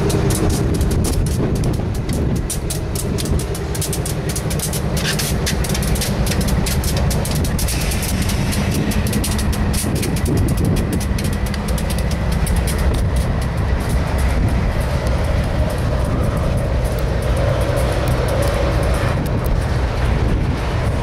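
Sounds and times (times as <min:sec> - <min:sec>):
clicks of wheels on rail: 0:00.0 - 0:21.0
freight train rumbling past: 0:00.0 - 0:21.0.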